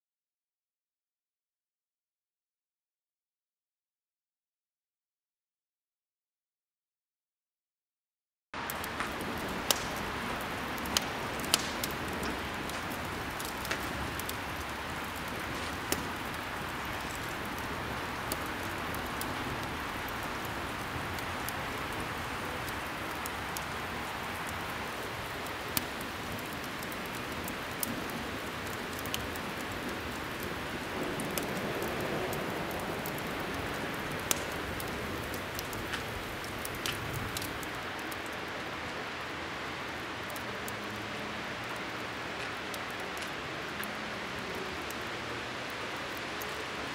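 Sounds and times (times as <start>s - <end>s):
fire crackling: 8.6s - 46.9s.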